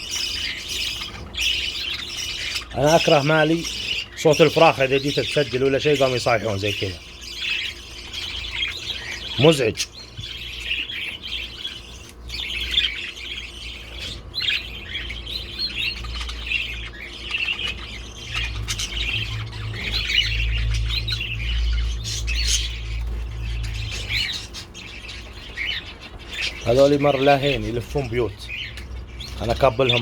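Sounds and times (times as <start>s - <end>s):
overlapping bird chirps: 0.0s - 30.0s
young birds squawking: 0.0s - 30.0s.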